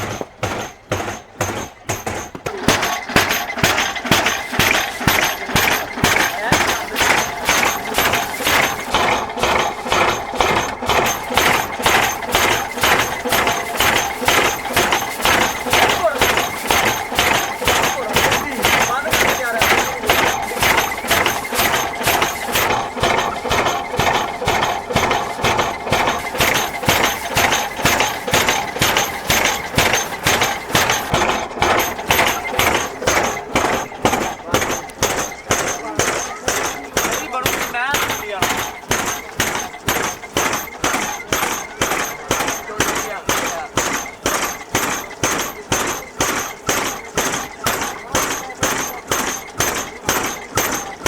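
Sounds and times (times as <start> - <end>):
machine clanking: 0.0 - 51.0
sharp knocks: 0.0 - 51.0.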